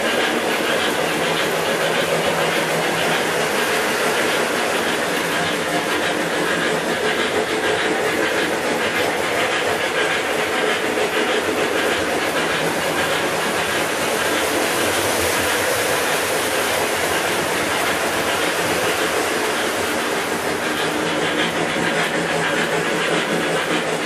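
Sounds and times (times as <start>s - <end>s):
model train motors humming: 0.0s - 24.0s
model train wheels clattering: 0.0s - 24.0s.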